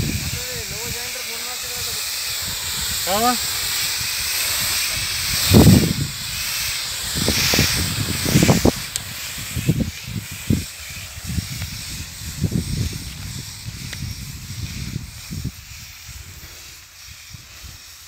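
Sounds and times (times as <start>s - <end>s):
spray nozzles hissing: 0.0s - 18.0s.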